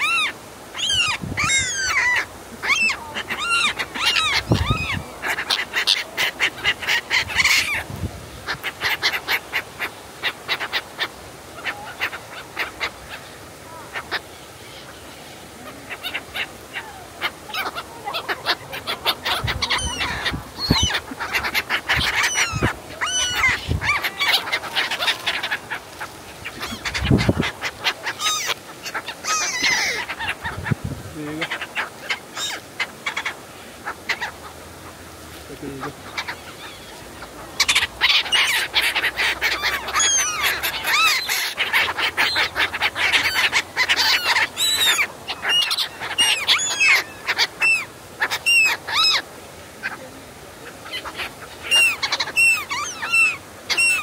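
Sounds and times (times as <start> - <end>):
gulls calling: 0.0 - 54.0.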